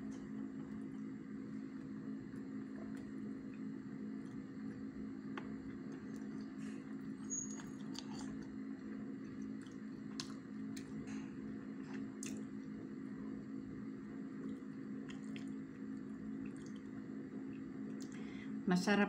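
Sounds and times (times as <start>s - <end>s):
steady low hum: 0.0s - 19.0s
soft chewing: 0.1s - 18.2s.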